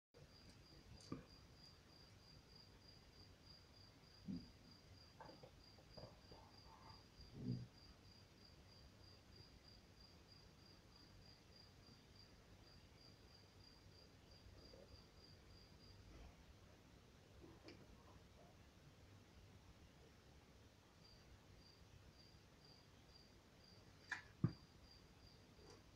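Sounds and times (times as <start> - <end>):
cricket chirping: 0.2 - 16.3, 21.0 - 25.9.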